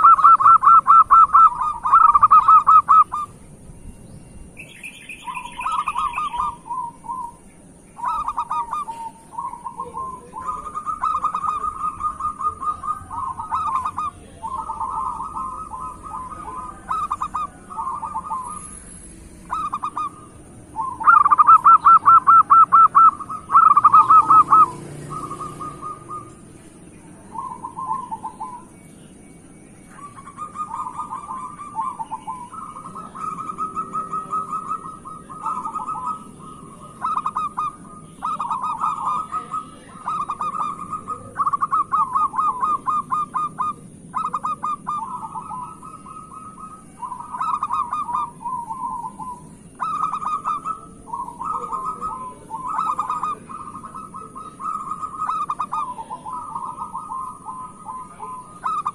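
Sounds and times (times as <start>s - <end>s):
dove cooing: 0.0s - 3.6s, 4.6s - 58.9s.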